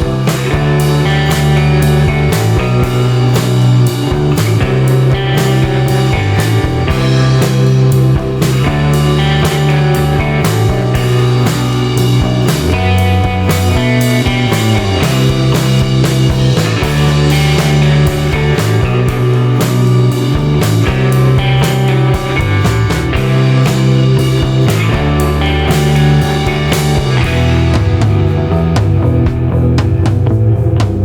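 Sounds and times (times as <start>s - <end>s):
rock music with bass and guitar: 0.0s - 31.0s.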